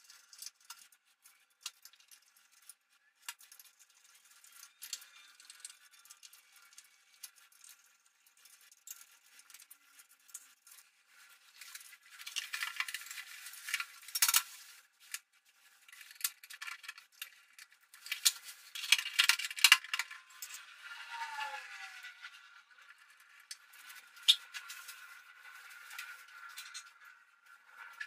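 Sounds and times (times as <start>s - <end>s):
scraping and clicking on fittings: 0.0s - 21.9s, 22.9s - 28.0s.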